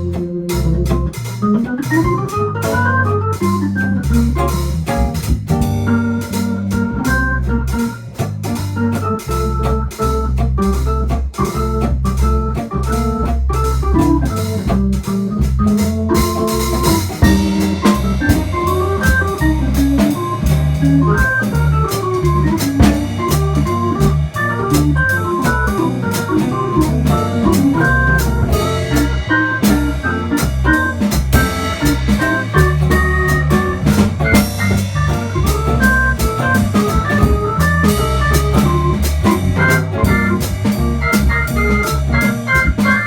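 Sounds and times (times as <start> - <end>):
bass line: 0.0 - 43.0
drums keeping time: 0.0 - 43.0
organ melody: 0.0 - 43.0.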